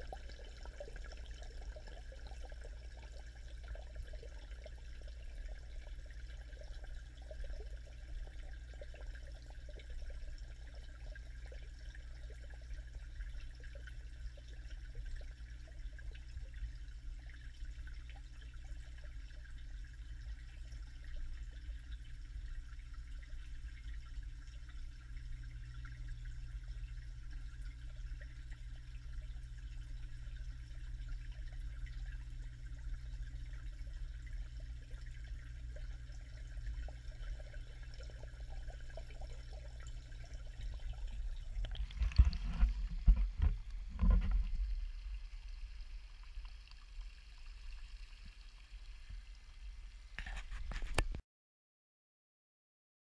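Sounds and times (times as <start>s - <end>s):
low underwater hum: 0.0s - 51.2s
underwater water noise: 0.0s - 51.2s.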